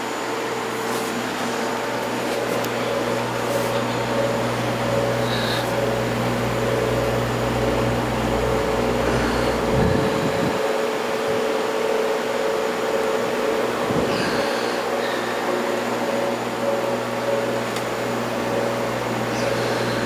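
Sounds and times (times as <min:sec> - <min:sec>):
ventilation fans humming: 0:00.0 - 0:20.0.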